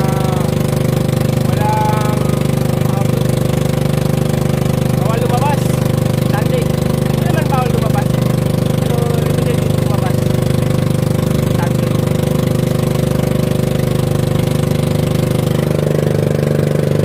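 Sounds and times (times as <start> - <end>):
boat engine throbbing: 0.0 - 17.0.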